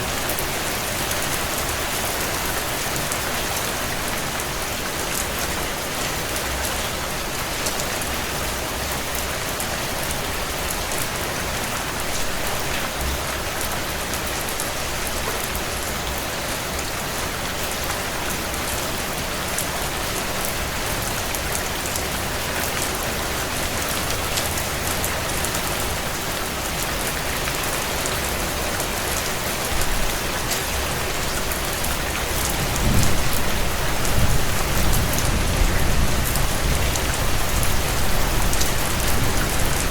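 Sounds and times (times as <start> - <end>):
heavy rain on window glass: 0.2 - 39.9.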